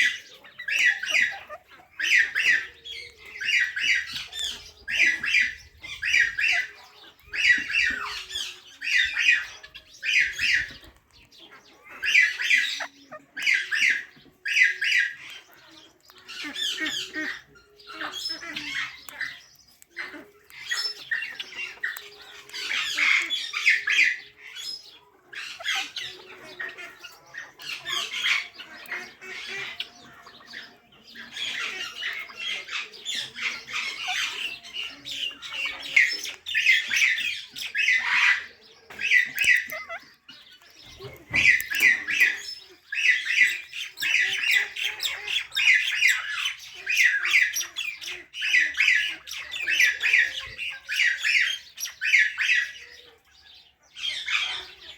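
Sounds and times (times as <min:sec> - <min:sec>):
parrot chirping and squawking: 0:00.0 - 0:54.9.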